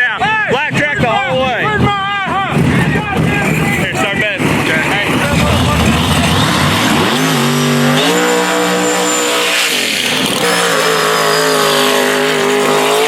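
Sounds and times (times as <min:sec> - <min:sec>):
race car engine revving: 0:02.5 - 0:13.0.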